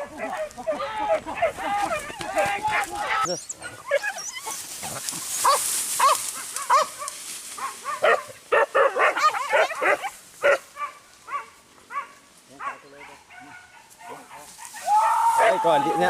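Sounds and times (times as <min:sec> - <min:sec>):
dogs barking and yelping: 0:00.0 - 0:16.0.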